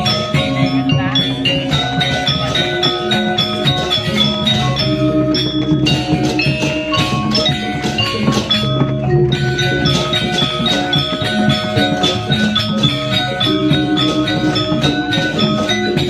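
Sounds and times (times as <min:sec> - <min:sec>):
gamelan playing: 0:00.0 - 0:16.0.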